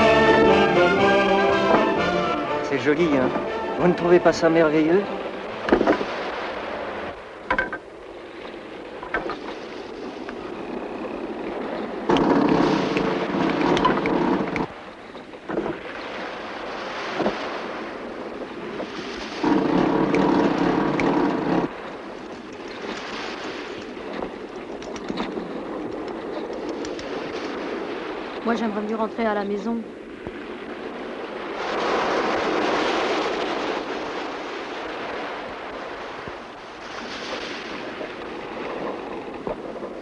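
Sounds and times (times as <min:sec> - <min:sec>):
rush of wind and water: 0:00.0 - 0:40.0
washing water surges: 0:00.0 - 0:40.0.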